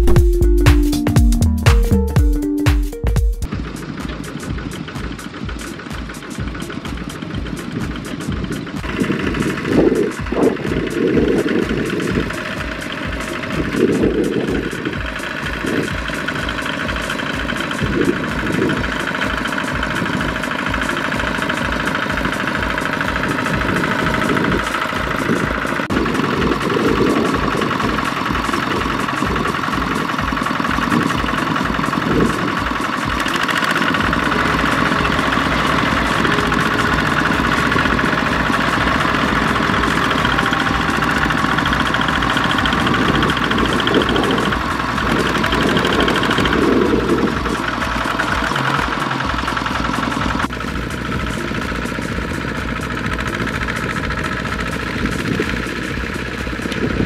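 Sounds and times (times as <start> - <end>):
diesel engines chugging: 3.4 - 57.0.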